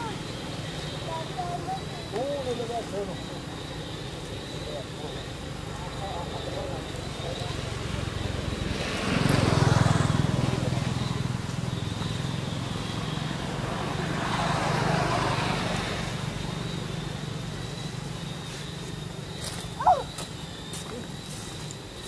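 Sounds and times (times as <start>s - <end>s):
passing traffic: 0.0s - 22.0s
vehicle engine humming: 0.0s - 22.0s.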